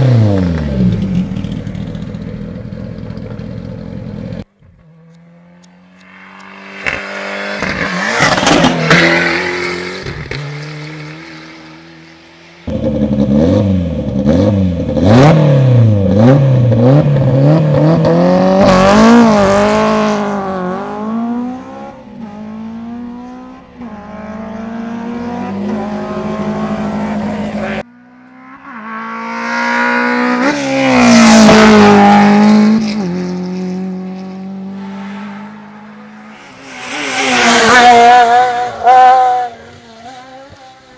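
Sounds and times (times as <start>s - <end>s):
rally car passing at speed: 4.6s - 40.9s
engine revving up and down: 4.8s - 40.9s.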